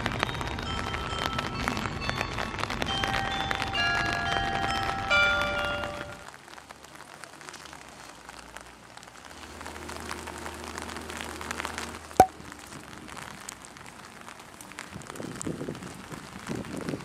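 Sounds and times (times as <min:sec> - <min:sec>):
light rain falling: 0:00.0 - 0:17.0.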